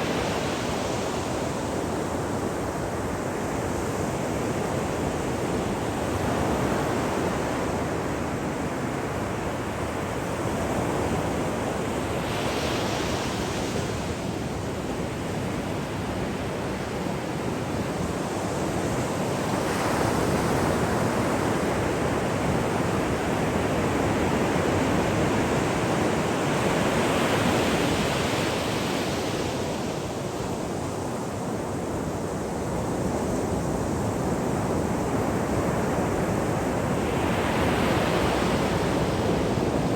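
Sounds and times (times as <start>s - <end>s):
ocean waves breaking on shore: 4.4s - 39.9s.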